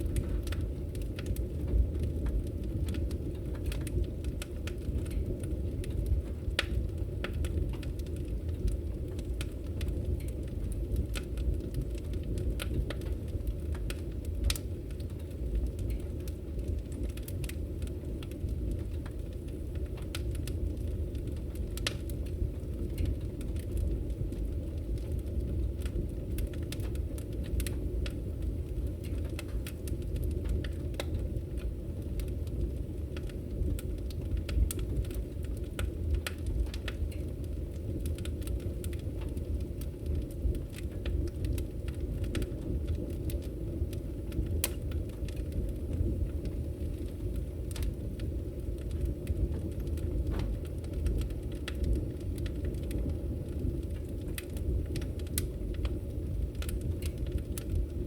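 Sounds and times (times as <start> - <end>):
flames rumbling: 0.0 - 58.0
wood crackling and popping: 0.0 - 58.0.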